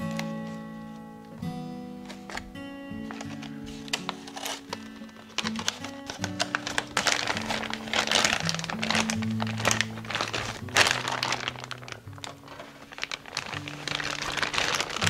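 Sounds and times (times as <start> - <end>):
plastic bag crinkling: 0.0 - 1.1, 2.0 - 15.0
background music: 0.0 - 15.0.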